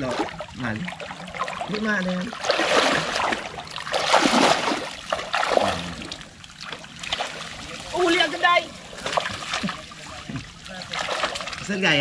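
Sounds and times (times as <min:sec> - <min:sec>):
wading through muddy water: 0:00.0 - 0:12.0.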